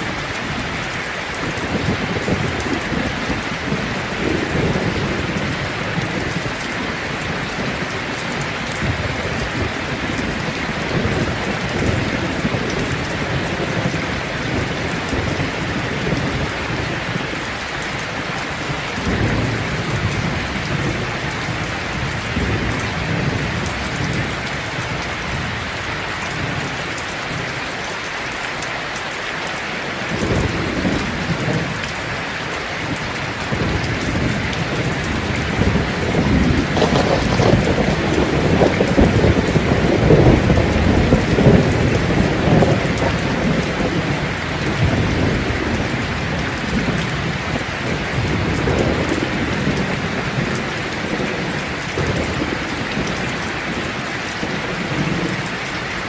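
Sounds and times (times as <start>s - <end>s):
thunder rumbling: 0.0s - 27.5s, 30.1s - 55.9s
heavy rain hissing: 0.0s - 56.0s.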